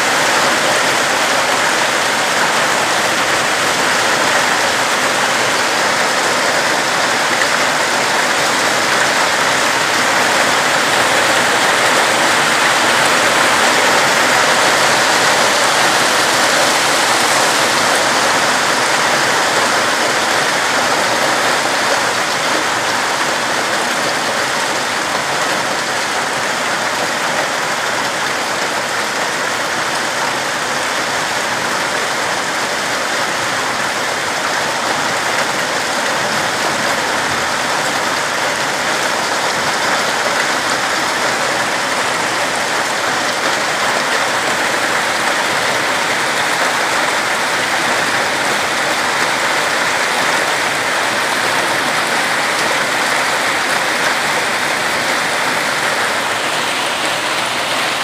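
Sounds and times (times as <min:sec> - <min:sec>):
heavy rain and hail: 0:00.0 - 0:58.0.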